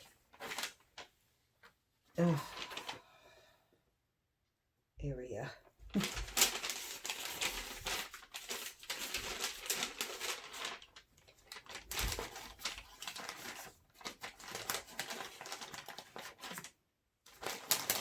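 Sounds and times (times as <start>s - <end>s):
plastic covering crinkling: 0.0s - 3.0s, 5.8s - 18.0s.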